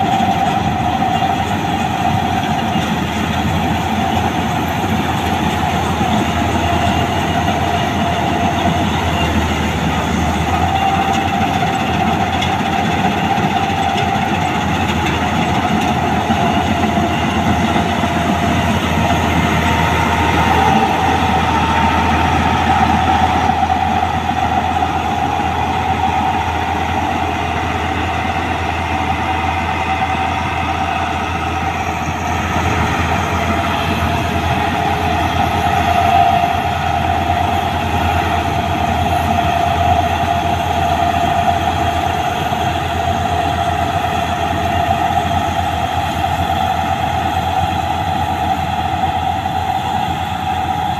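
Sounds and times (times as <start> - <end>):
combine harvester running: 0.0 - 50.9
machinery whine: 0.0 - 50.9.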